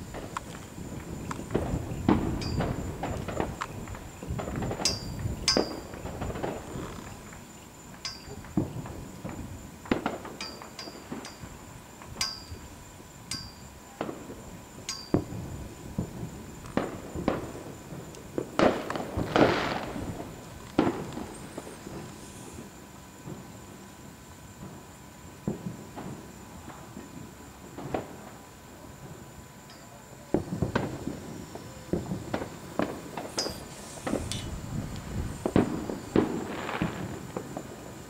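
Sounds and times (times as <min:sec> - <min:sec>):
fireworks bangs and pops: 0:00.0 - 0:13.0, 0:13.7 - 0:23.7, 0:24.5 - 0:29.4, 0:30.0 - 0:38.0
firework hissing burst: 0:00.0 - 0:23.6, 0:30.4 - 0:38.0.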